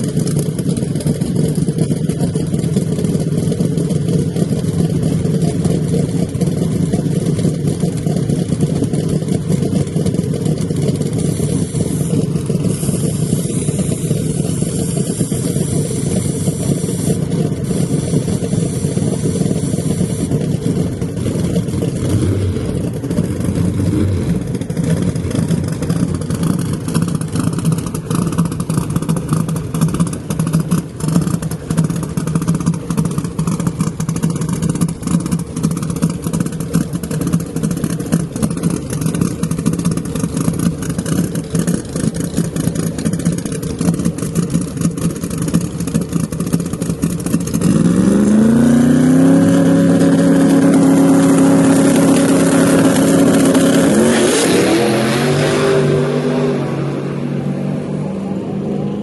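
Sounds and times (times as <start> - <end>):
drag car engine running: 0.0 - 59.0.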